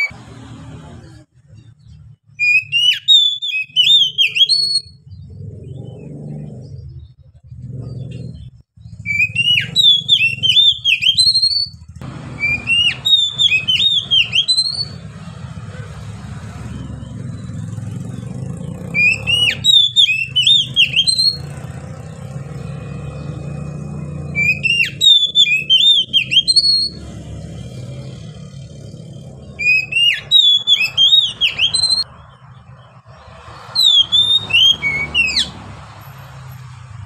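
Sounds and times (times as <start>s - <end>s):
bird whistling song: 1.8s - 7.1s, 7.8s - 15.2s, 16.6s - 35.6s.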